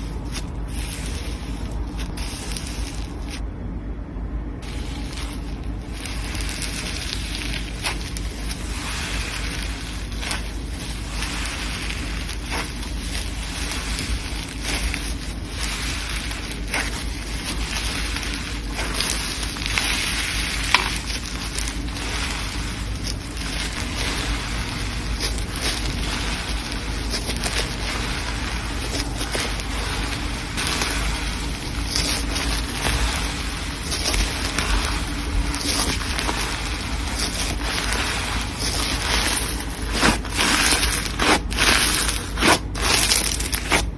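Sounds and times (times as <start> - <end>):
steady low rumble: 0.0 - 43.9
slime crackles and pops: 4.7 - 43.9.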